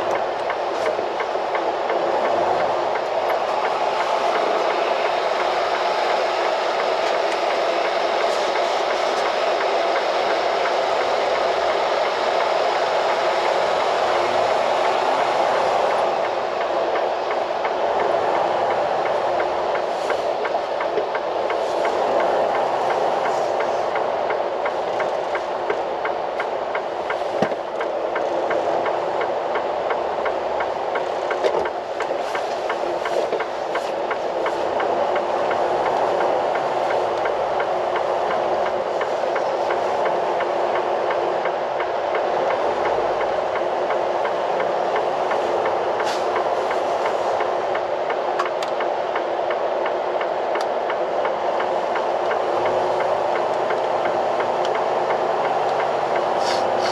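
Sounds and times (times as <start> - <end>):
semi-truck running from inside cab: 0.0 - 56.9.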